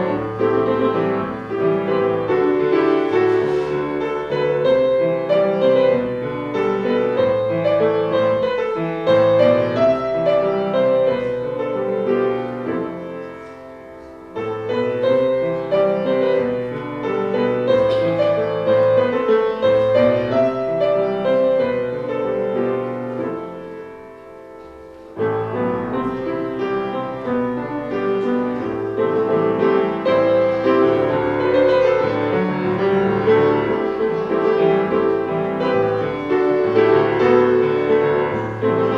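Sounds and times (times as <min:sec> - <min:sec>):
slow classical piano music: 0:00.0 - 0:38.9.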